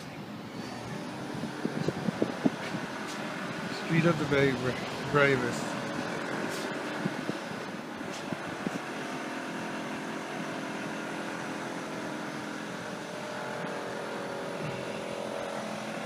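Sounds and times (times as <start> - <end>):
city street hum: 0.0 - 16.0
constant mechanical drone: 0.0 - 16.0.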